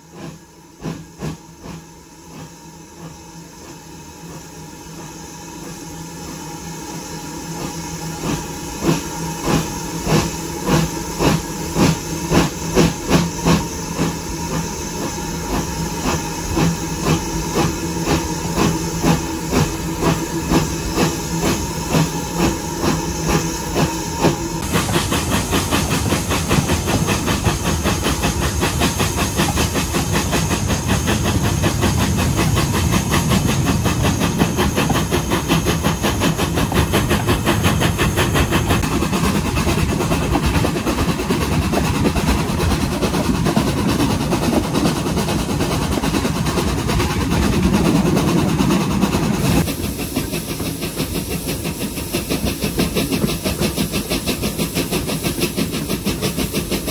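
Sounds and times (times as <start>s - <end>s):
steam hissing: 0.0s - 56.9s
steam locomotive exhaust beats: 0.0s - 56.9s.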